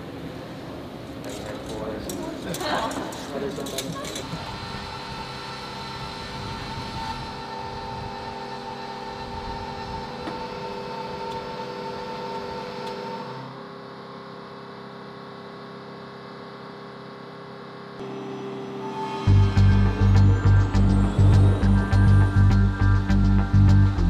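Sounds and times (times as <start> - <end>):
machinery hum with whine: 0.0 - 24.0.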